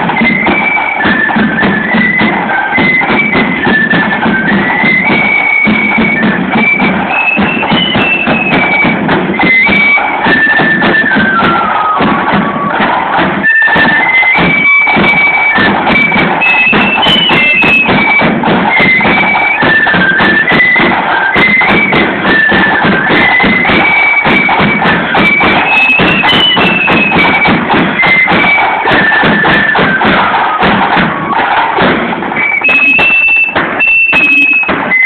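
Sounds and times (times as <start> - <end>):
drum and cymbal beat: 0.0 - 35.0
flute melody: 0.0 - 35.0.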